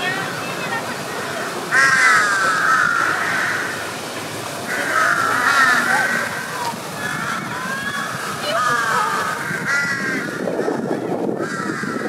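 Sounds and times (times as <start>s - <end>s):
crows cawing: 1.4s - 3.9s, 4.7s - 12.0s.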